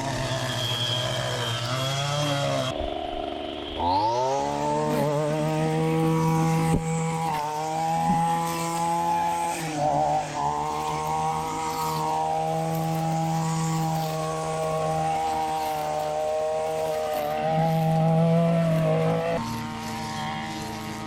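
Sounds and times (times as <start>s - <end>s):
string trimmer engine running: 0.0s - 21.0s.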